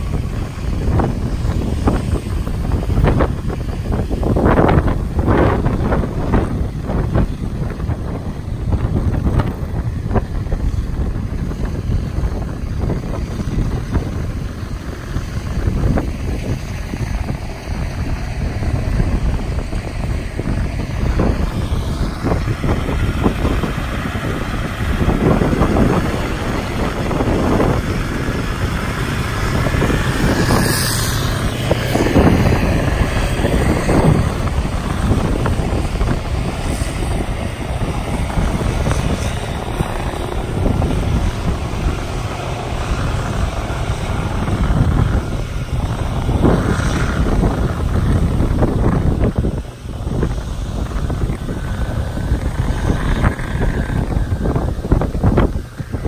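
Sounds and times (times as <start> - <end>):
combine harvester engine drone: 0.0 - 56.0
wind buffeting microphone: 0.0 - 56.0.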